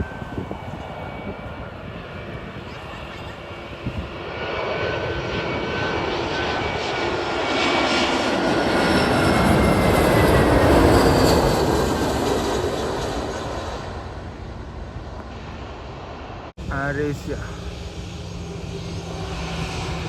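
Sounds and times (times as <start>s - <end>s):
jet aircraft passing overhead: 0.0s - 20.0s.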